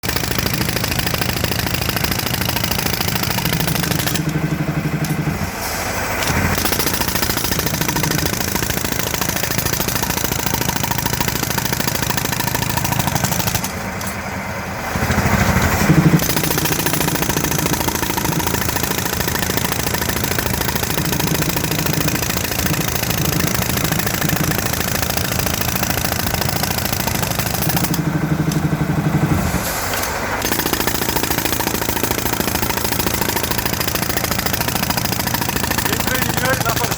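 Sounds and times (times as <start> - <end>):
drill hammering into ground: 0.0 - 14.3, 14.9 - 36.9
engine running: 0.0 - 36.9.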